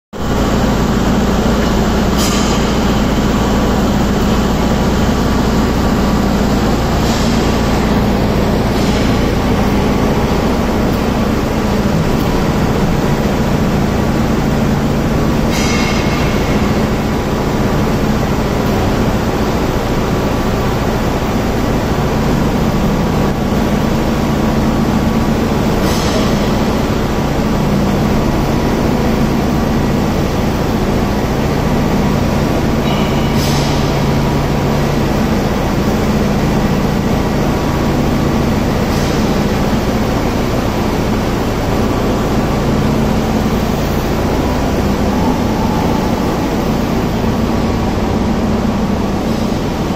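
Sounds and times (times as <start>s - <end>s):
overhead crane rumbling: 0.2s - 49.9s.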